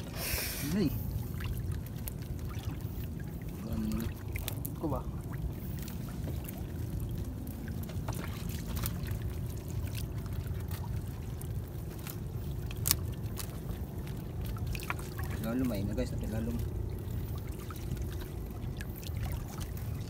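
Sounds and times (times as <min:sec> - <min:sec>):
water sloshing and dripping: 0:00.0 - 0:20.0.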